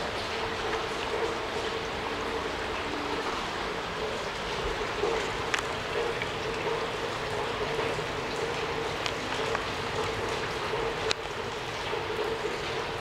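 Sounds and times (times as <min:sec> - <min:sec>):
faint steady hum: 0:00.0 - 0:13.0
sharp drip ticks: 0:00.0 - 0:13.0
steady rain falling: 0:00.0 - 0:13.0.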